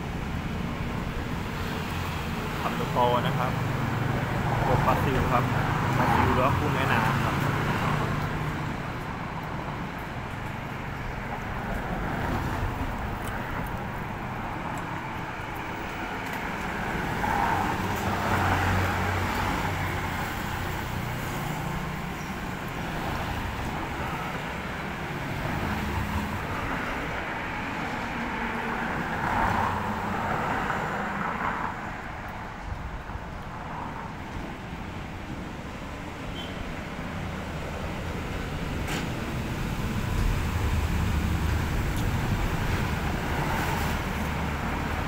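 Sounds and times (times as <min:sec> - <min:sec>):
vehicles passing by: 0:00.0 - 0:45.0.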